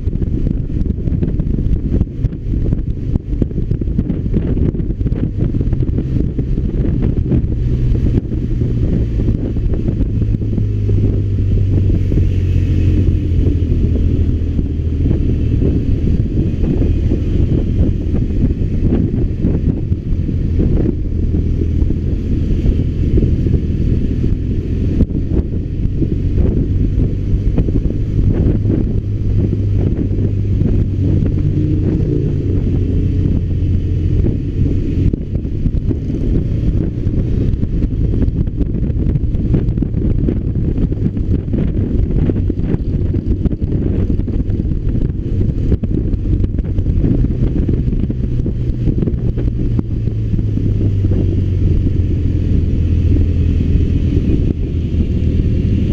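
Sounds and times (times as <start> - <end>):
wind rumble on microphone: 0.0 - 55.9.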